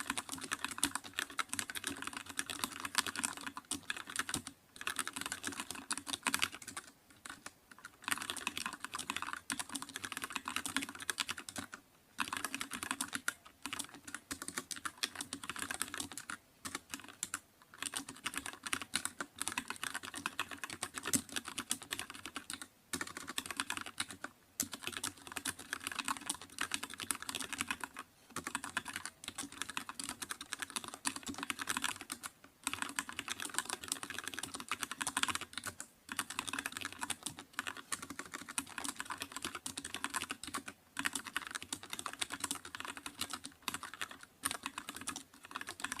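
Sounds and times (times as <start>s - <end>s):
computer keyboard typing: 0.0s - 46.0s.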